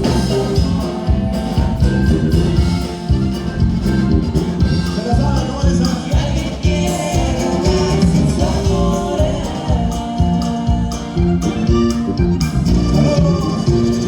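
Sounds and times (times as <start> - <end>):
band playing live: 0.0 - 14.0.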